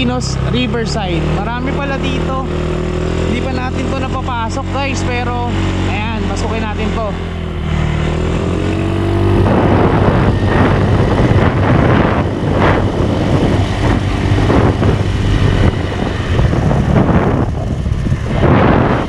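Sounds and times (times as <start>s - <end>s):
scooter engine humming: 0.0s - 19.0s
wind buffeting microphone: 0.0s - 19.0s.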